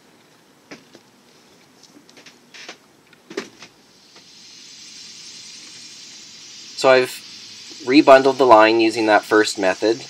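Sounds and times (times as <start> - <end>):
steady hiss: 1.2 - 10.0.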